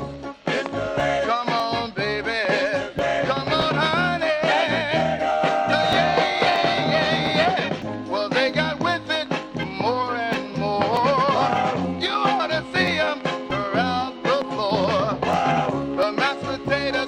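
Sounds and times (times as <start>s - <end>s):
rock and roll record: 0.0s - 17.0s.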